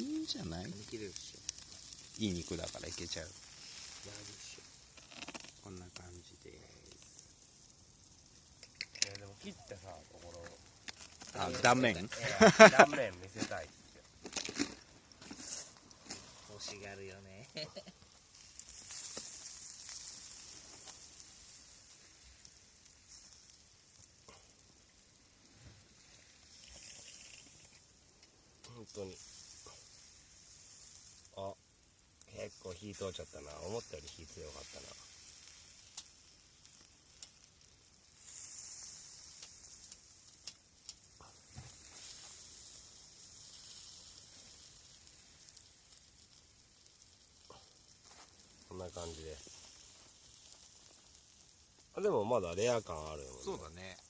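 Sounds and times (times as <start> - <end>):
fire popping: 0.0 - 54.0
steak sizzling on a hot pan: 0.0 - 54.0.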